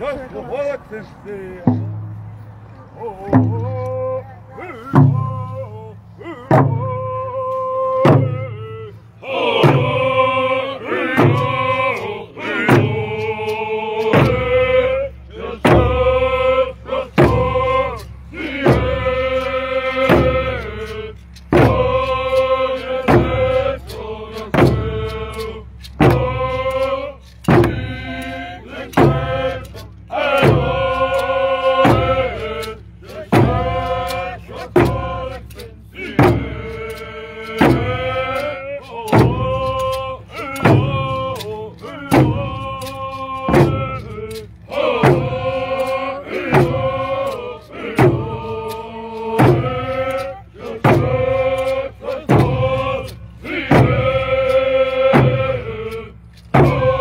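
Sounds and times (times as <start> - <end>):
hand drums beating: 1.7 - 2.3, 3.2 - 3.9, 4.9 - 5.6, 6.5 - 7.0, 9.4 - 10.2, 10.8 - 57.0
group of voices chanting: 3.1 - 57.0.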